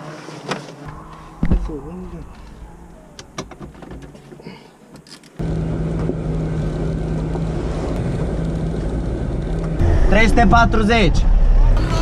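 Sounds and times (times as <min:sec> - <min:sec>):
off-road vehicle engine drone: 0:00.0 - 0:04.4, 0:05.4 - 0:12.0
road noise: 0:00.0 - 0:12.0.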